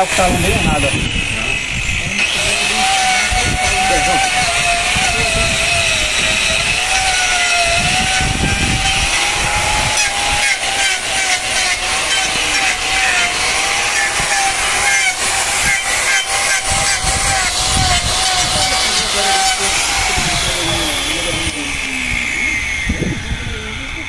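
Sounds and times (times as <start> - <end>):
angle grinder grinding hoof: 0.0 - 24.0.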